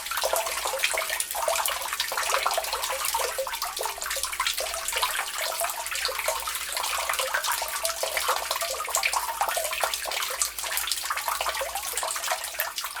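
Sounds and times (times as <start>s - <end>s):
water gushing through downspout: 0.0s - 13.0s.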